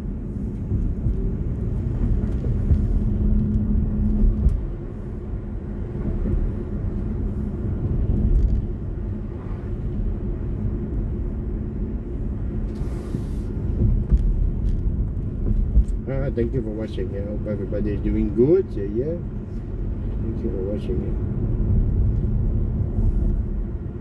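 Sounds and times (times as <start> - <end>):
tyres rumbling on road: 0.0 - 24.0.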